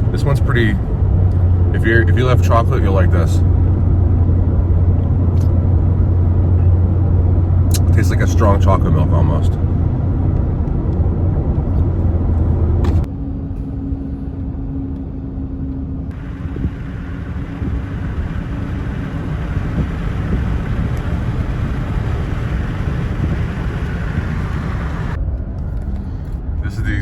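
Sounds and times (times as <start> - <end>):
engine and road noise in truck cab: 0.0 - 27.0.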